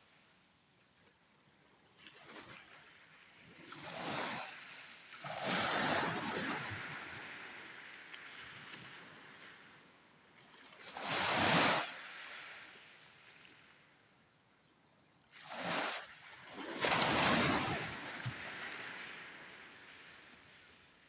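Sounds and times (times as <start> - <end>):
sea waves breaking on a beach: 1.8 - 14.2, 15.1 - 21.0.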